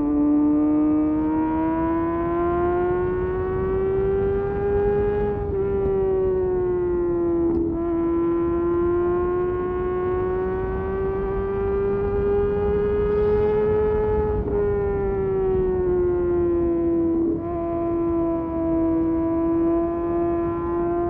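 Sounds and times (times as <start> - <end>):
motorcycle engine revving high: 0.0 - 21.0.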